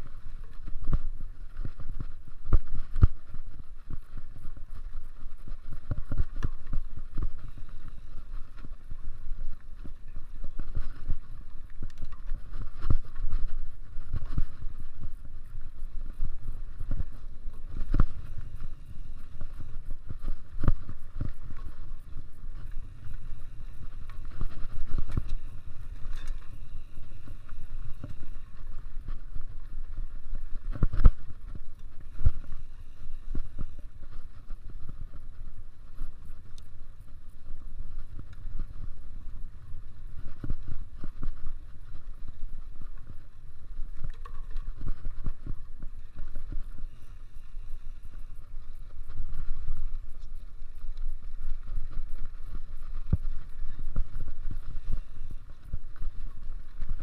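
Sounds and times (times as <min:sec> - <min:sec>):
bike tyres rumbling on dirt: 0:00.0 - 0:57.0.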